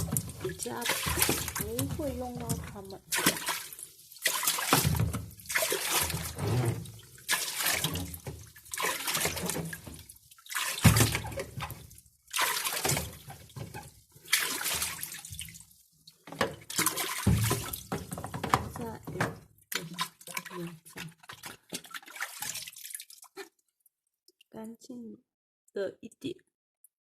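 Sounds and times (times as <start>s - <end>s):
water splashing in surges: 0.0s - 23.4s.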